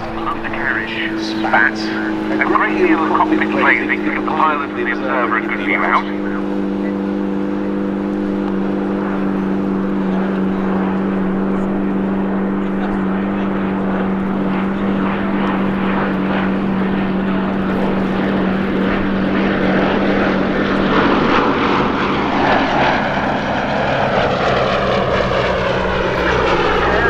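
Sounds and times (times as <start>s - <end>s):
propeller plane engine flypast: 0.0s - 27.0s.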